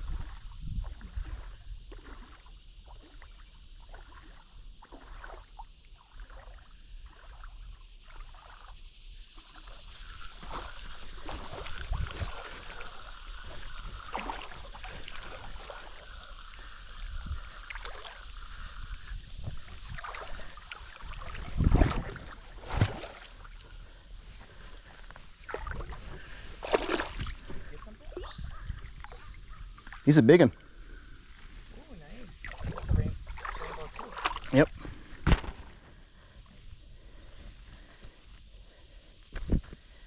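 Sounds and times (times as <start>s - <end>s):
water splashing around kayak: 0.0s - 40.0s.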